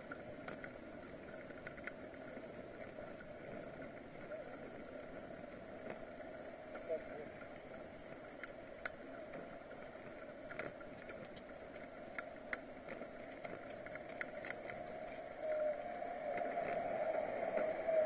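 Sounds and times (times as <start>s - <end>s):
bicycle clicks and rattles: 0.0s - 6.8s, 7.6s - 15.5s
bicycle riding hum: 0.0s - 18.0s.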